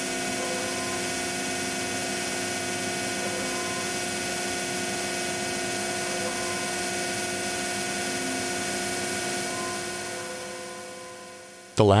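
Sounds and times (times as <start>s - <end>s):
router spindle whine: 0.0s - 11.7s.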